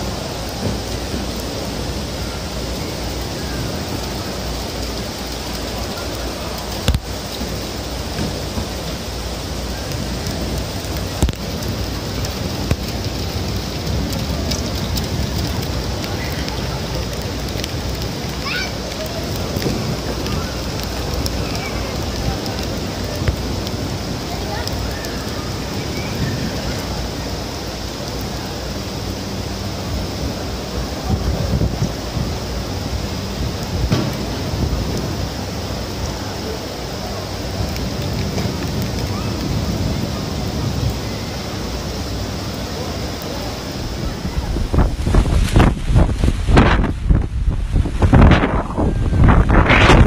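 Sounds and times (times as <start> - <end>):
heavy rain on hard ground: 0.0 - 50.0
wind rumbling on microphone: 0.0 - 50.0.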